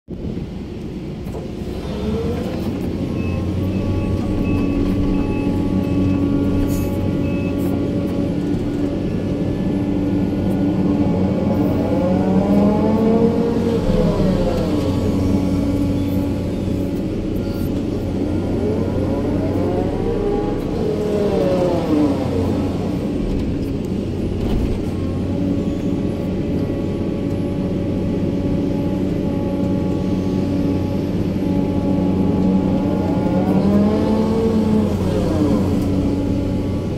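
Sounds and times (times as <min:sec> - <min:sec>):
excavator diesel engine running: 0:00.2 - 0:36.9
rising and falling whine: 0:01.8 - 0:36.9.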